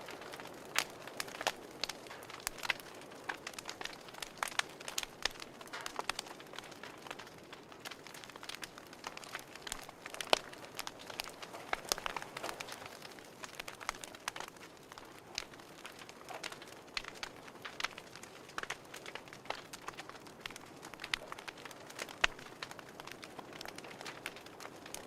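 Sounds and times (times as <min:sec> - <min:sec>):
fireplace crackling: 0:00.0 - 0:25.0.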